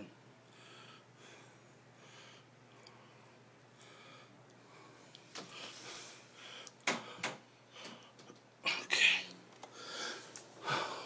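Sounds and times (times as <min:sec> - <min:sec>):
man breathing heavily: 0:00.4 - 0:11.0.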